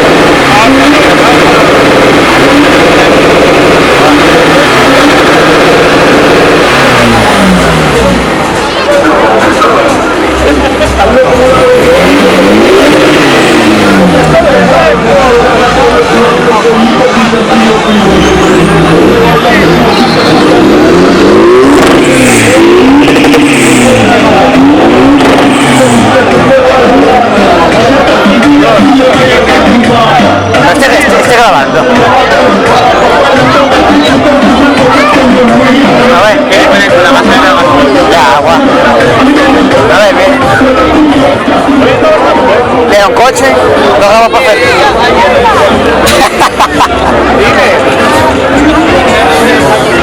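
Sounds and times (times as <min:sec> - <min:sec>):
car engine and exhaust running: 0:00.0 - 0:50.0.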